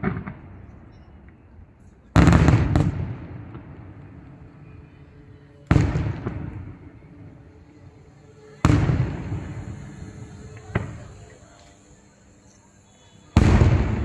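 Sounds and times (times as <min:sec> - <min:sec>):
distant fireworks bangs: 0:00.0 - 0:01.3, 0:02.1 - 0:12.3, 0:13.1 - 0:14.0
rolling echo: 0:00.0 - 0:14.0.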